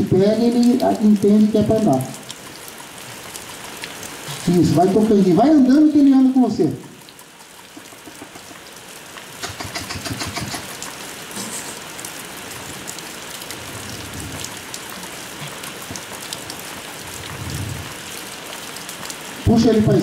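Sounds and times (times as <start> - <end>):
raindrops ticking: 0.0 - 20.0
steady rain falling: 0.0 - 20.0.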